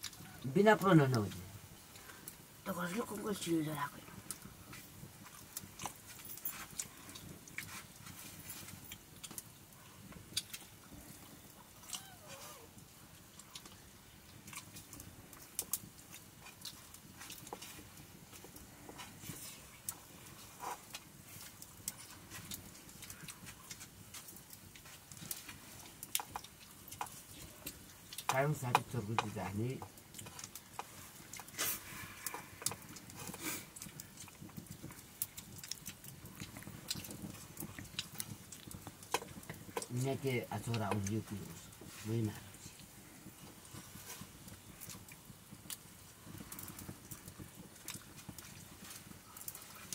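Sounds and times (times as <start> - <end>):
chewing: 4.0 - 49.9
small irregular clicks: 4.0 - 49.9.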